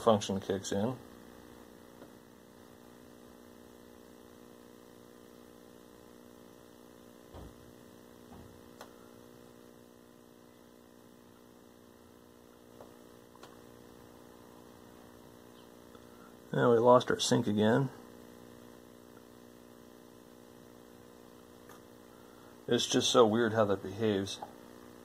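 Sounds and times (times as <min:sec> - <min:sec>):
faint electrical mains hum: 0:00.0 - 0:25.0.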